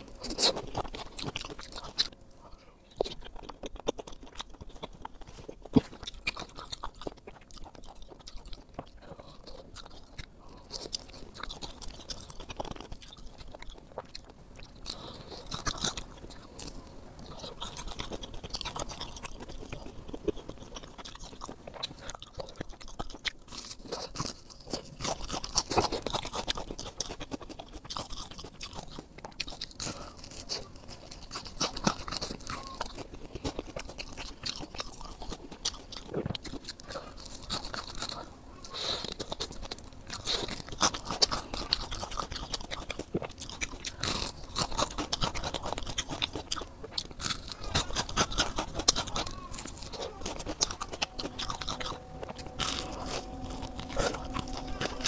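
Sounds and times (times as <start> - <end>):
wet chewing and munching: 0.0 - 55.0.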